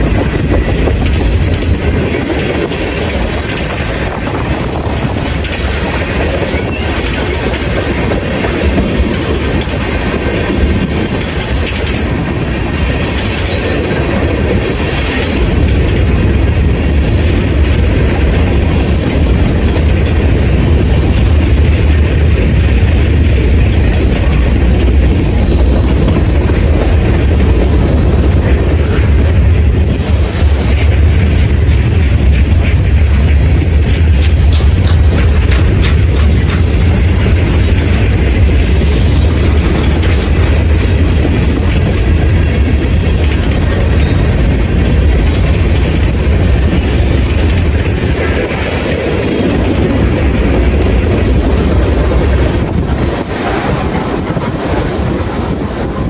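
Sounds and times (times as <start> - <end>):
train rumble: 0.0 - 56.0
train wheels clicking over joints: 0.0 - 56.0.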